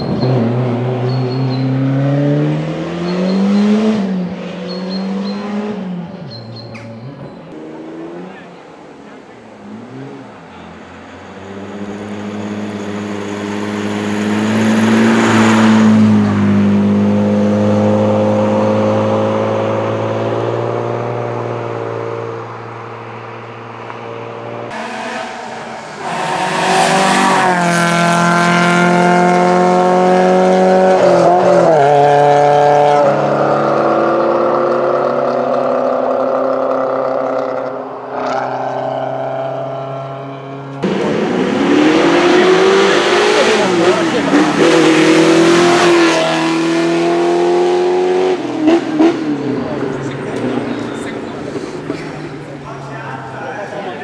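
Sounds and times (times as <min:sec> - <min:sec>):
racing cars driving past: 0:00.0 - 0:54.0.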